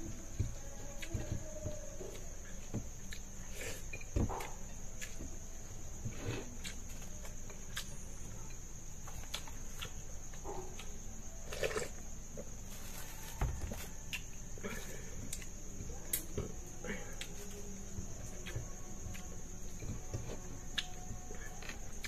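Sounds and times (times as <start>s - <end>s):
night insects chirring: 0.0s - 22.0s.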